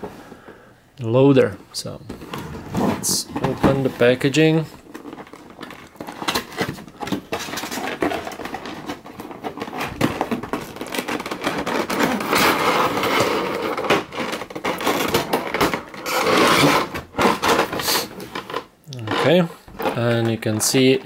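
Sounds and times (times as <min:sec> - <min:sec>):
plastic tray sliding and crinkling: 0:02.1 - 0:21.0.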